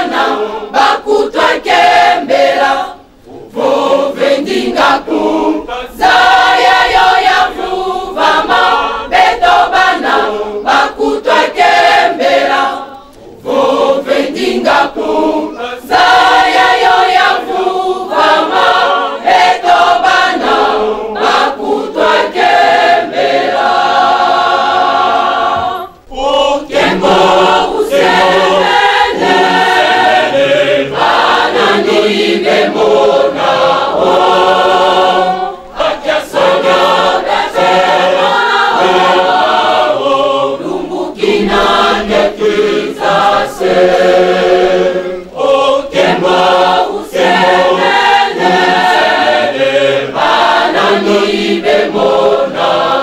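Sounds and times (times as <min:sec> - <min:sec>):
choir singing a hymn: 0:00.0 - 0:53.0.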